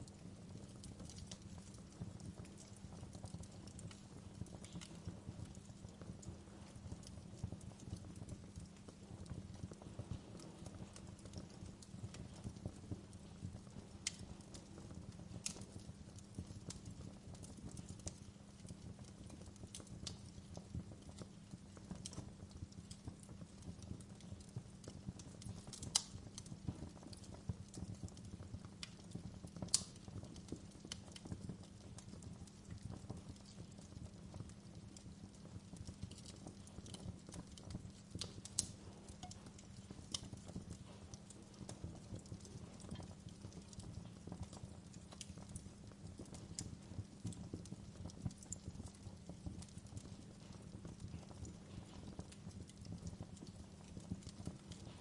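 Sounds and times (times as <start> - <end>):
burning wood popping: 0.0 - 55.0
wood fire crackling: 0.0 - 55.0.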